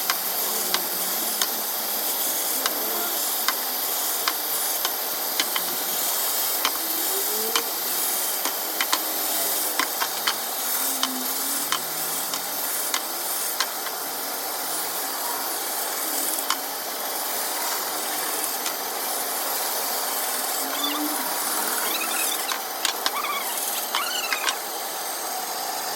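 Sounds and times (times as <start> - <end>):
wood-cutting machine hiss: 0.0 - 25.9.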